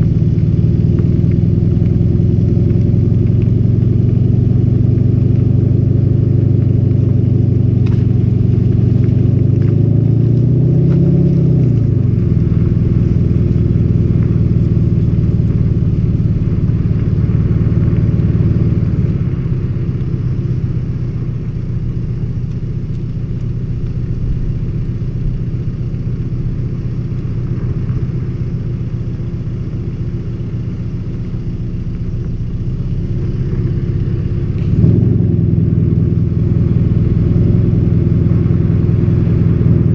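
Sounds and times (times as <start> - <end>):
diesel car engine revving: 0.0 - 39.9.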